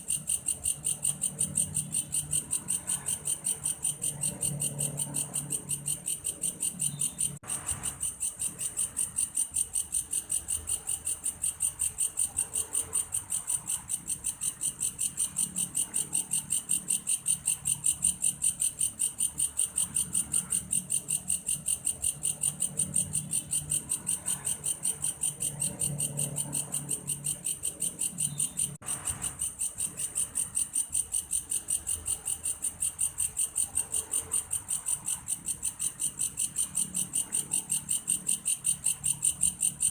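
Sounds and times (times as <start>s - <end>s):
grasshopper chirring: 0.0s - 39.9s.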